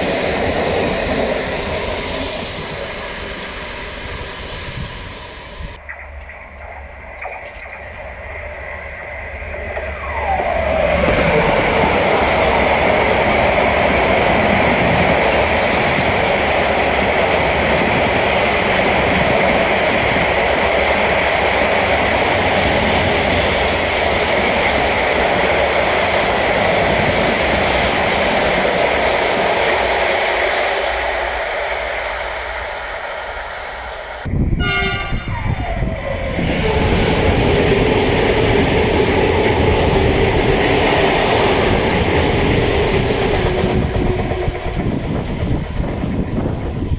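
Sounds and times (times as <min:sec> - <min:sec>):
train passing with falling tone: 0:00.0 - 0:46.9
train wagons rumbling and clattering: 0:00.0 - 0:46.9.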